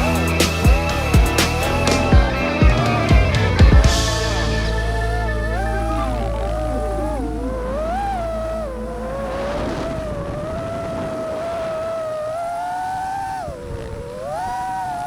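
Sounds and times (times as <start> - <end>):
drone motors and propellers whining: 0.0 - 15.0.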